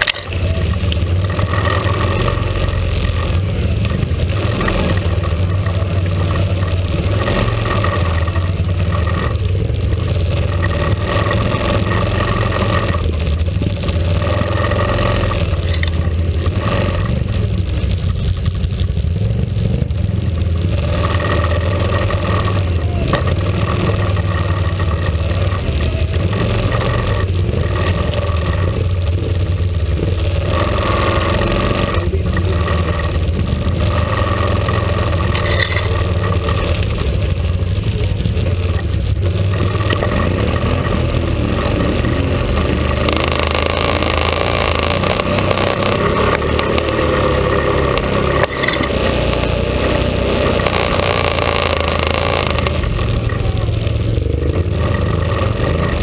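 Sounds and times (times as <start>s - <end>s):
atv engines running: 0.0s - 56.0s.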